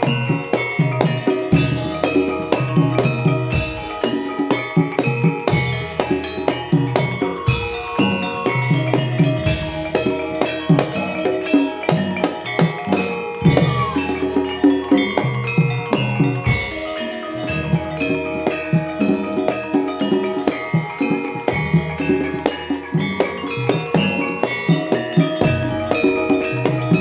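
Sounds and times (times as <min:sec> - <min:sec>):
gamelan music: 0:00.0 - 0:27.0
struck metal pitched percussion: 0:00.0 - 0:27.0.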